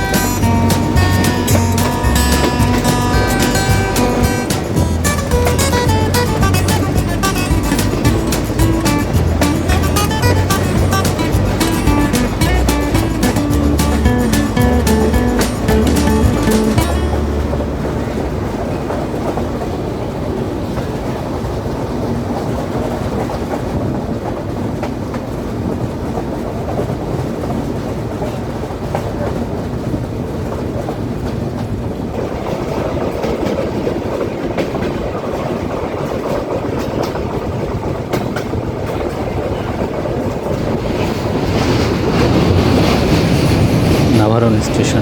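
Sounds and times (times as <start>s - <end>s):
rail-joint clicks: 0.0s - 20.1s, 22.7s - 45.0s
train wheels rumbling on track: 0.0s - 45.0s.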